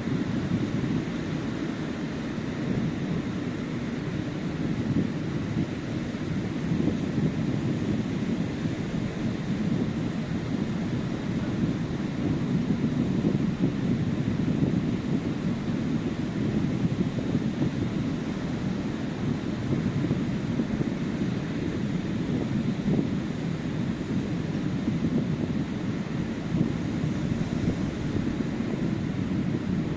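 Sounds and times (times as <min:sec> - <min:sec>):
sea surf washing onto beach: 0:00.0 - 0:29.9
wind on microphone: 0:00.0 - 0:29.9.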